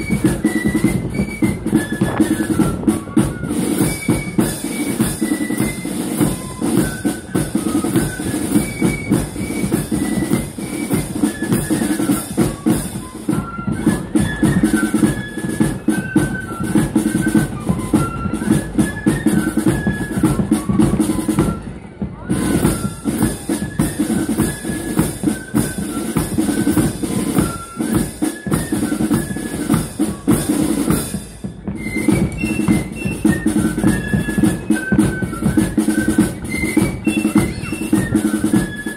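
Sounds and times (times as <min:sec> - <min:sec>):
snare drums: 0:00.0 - 0:38.9.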